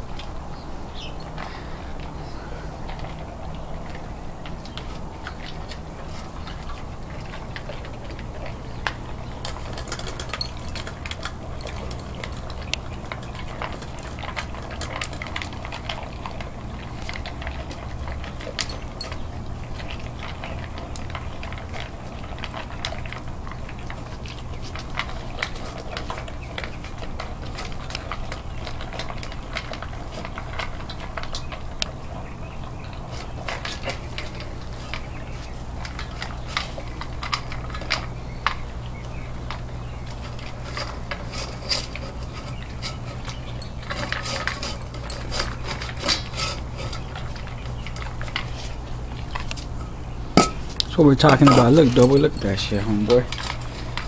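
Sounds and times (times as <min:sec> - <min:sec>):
dogs chewing and licking: 0:00.0 - 0:54.0.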